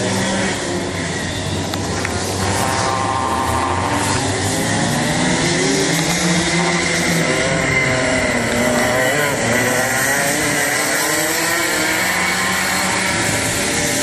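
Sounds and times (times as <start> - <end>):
go-kart engines racing: 0.0 - 14.0.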